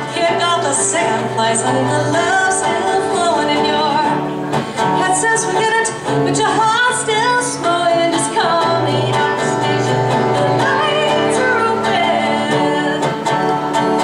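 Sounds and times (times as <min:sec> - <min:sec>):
strummed guitar: 0:00.0 - 0:14.0
woman singing: 0:00.0 - 0:14.0.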